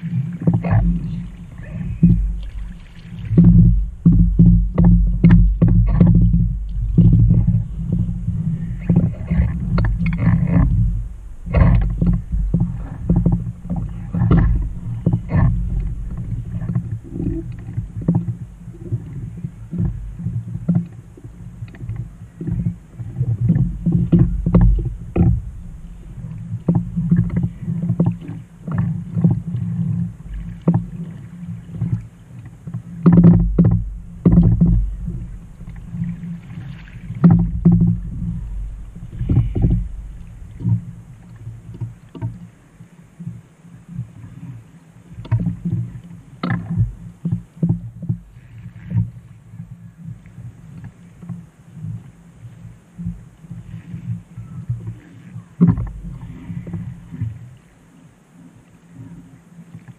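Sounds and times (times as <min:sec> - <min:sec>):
paddle strokes splashing: 0:00.0 - 0:59.9
water slapping against kayak: 0:00.0 - 0:59.9
wind rumbling on microphone: 0:00.0 - 0:59.9.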